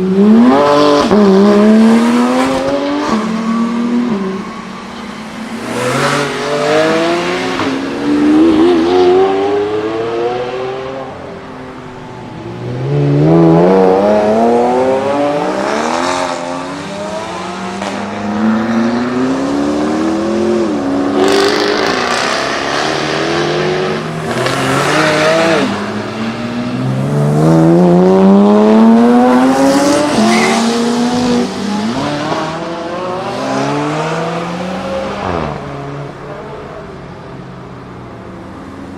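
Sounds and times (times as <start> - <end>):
car engines accelerating hard: 0.0 - 38.9.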